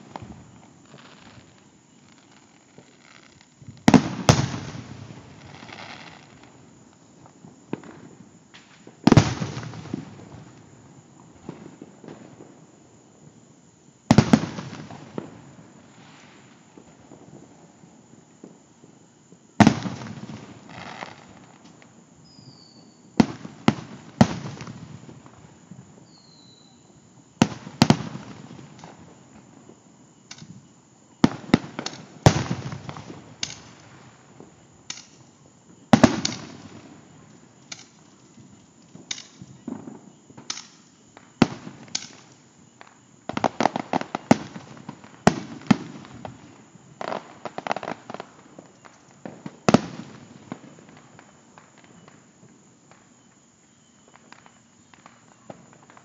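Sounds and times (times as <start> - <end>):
fireworks booming: 0.0 - 13.4, 14.0 - 56.0
fireworks crackling: 0.0 - 56.0.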